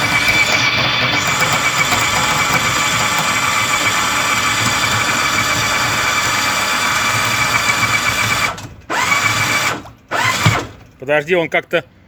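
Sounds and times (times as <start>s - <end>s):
electric anchor winch whining: 0.0s - 10.8s.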